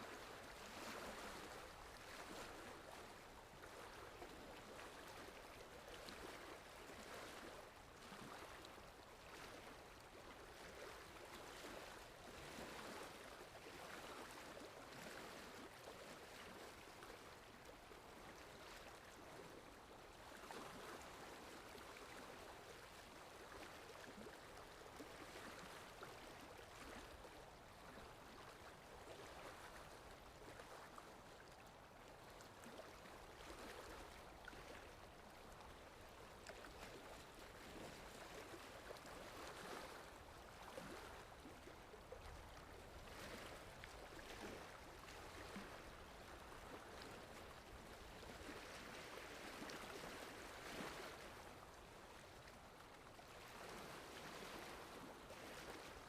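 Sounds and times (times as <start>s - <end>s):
faint sea waves: 0.0s - 56.0s.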